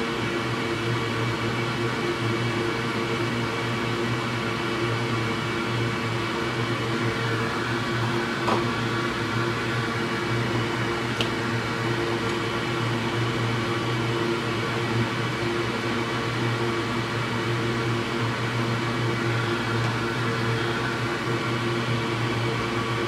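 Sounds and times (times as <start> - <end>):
machine hum with fan hiss: 0.0 - 23.0.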